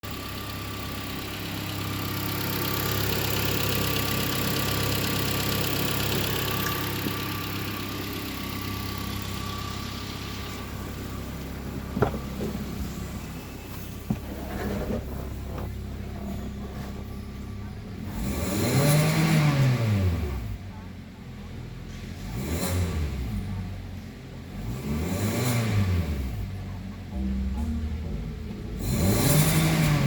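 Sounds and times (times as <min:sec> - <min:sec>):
car engine idling: 0:00.0 - 0:22.3, 0:26.2 - 0:30.0.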